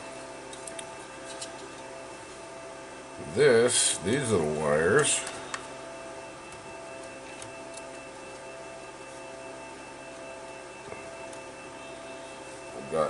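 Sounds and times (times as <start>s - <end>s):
room hum: 0.0s - 13.0s
thin whining tones: 0.0s - 13.0s.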